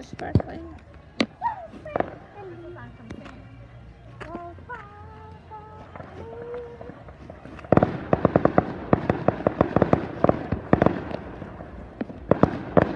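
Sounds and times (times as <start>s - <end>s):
fireworks crackling: 0.0s - 12.9s.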